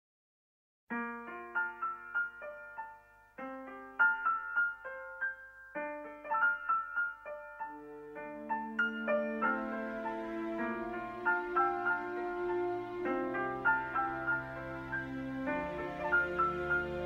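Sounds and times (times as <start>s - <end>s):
piano-toned keyboard melody: 0.9s - 17.0s.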